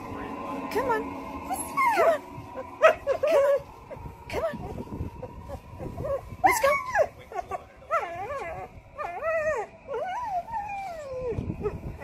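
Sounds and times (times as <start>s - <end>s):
dog whining and whimpering: 0.8s - 12.0s
dog yelping: 1.5s - 11.8s.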